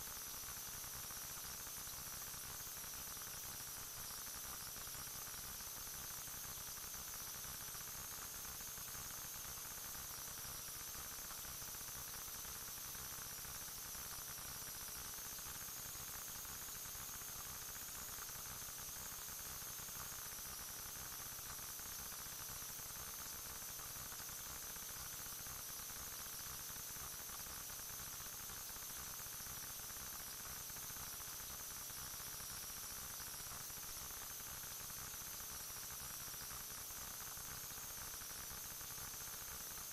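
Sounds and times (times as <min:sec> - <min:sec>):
electronic hiss: 0:00.0 - 0:39.9.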